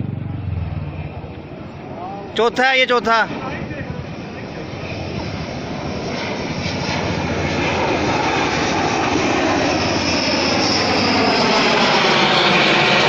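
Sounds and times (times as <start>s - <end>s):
fighter jet engines roaring: 0.0s - 13.0s.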